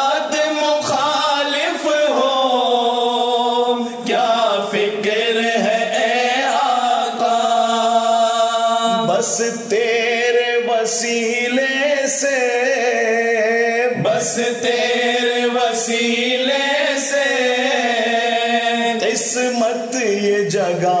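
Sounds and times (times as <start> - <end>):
men chanting melodically: 0.0 - 21.0.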